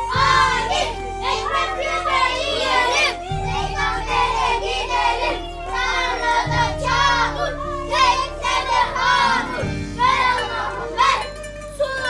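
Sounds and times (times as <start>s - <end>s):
background music: 0.0s - 12.0s
children singing and calling out: 0.0s - 12.0s.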